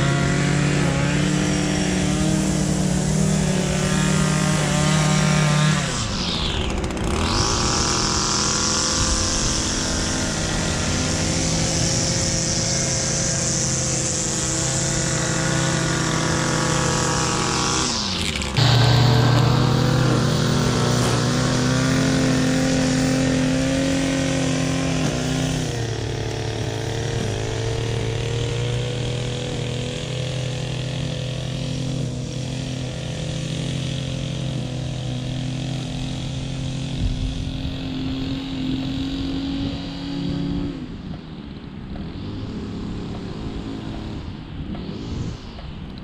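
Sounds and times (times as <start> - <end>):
rough engine noise: 0.0 - 46.0
small gasoline engine droning: 0.0 - 46.0.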